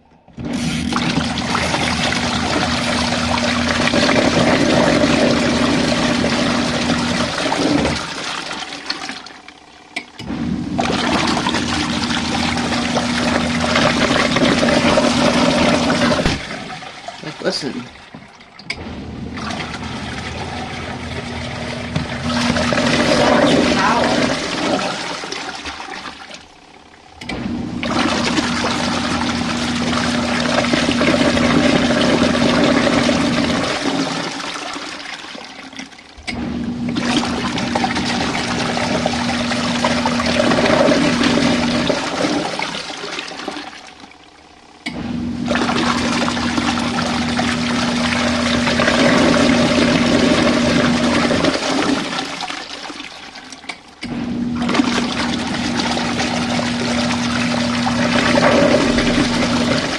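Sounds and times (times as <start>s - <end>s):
washing machine agitating water: 0.0s - 59.9s.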